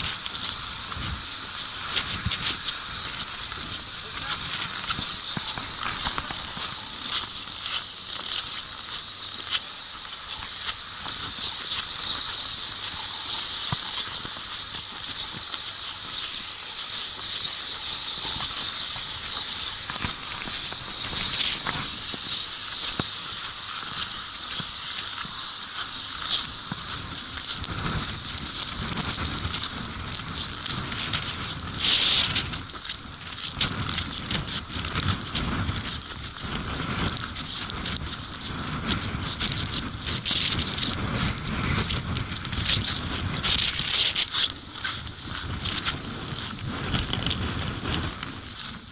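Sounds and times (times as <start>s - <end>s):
wind-driven snow hissing: 0.0s - 48.9s.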